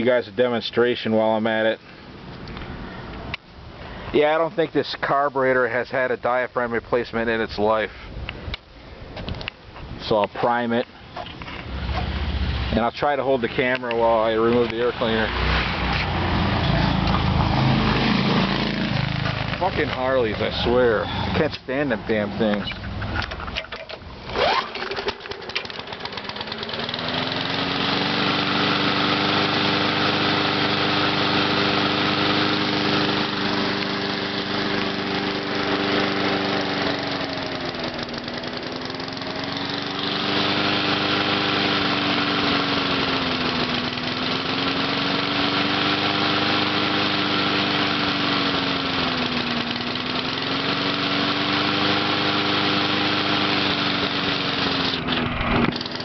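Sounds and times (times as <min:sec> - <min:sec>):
lawnmower engine pull-started and running: 0:09.1 - 0:56.0.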